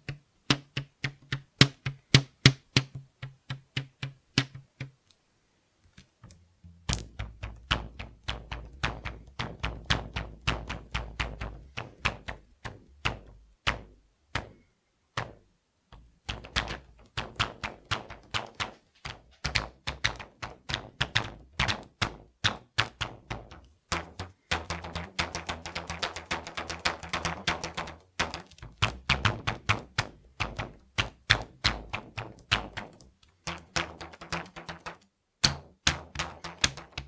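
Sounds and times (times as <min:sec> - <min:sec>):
rubber bands twanging: 0:00.0 - 0:05.0, 0:05.9 - 0:37.0.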